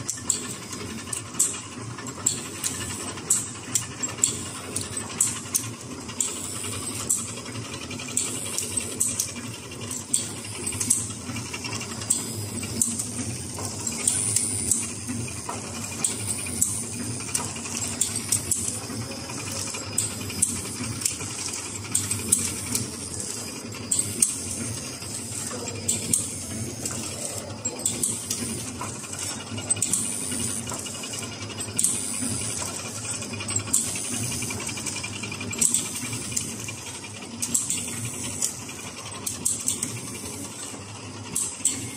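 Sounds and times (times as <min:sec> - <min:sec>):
packing machines clattering: 0:00.0 - 0:41.9
sharp mechanical clicks: 0:00.0 - 0:41.9.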